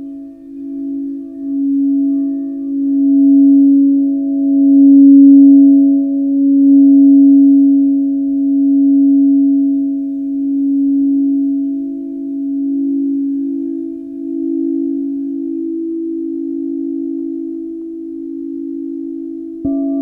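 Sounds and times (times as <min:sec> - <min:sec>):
crystal singing bowls ringing: 0:00.0 - 0:20.0.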